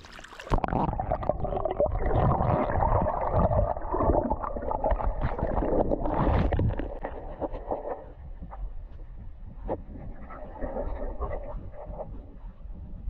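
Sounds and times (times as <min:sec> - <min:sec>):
muffled underwater churning: 0:00.0 - 0:13.0.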